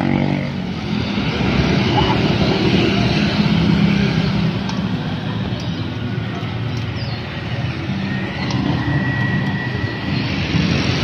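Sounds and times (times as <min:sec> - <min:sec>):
scooters and motorcycles riding past: 0:00.0 - 0:11.0.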